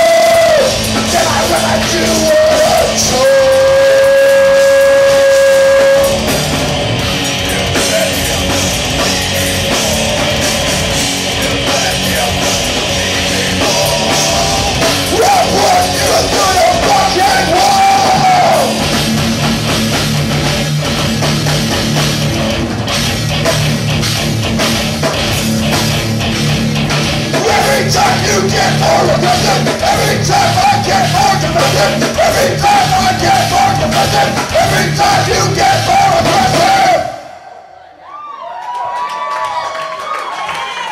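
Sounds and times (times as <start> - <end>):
heavy rock band playing live: 0.0 - 37.4.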